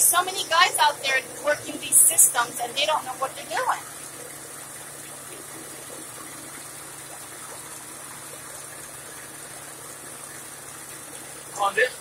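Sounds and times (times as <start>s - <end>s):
steady low hum: 0.0s - 12.0s
water running into tank: 0.0s - 12.0s.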